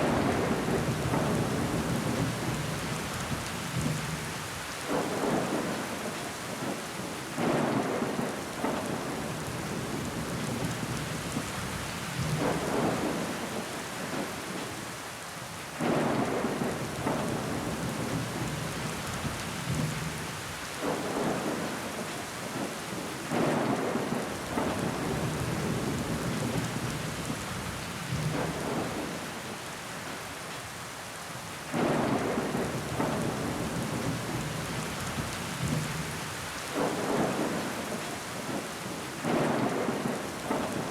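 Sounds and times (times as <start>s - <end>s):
rain on window glass: 0.0s - 30.8s, 31.4s - 40.9s.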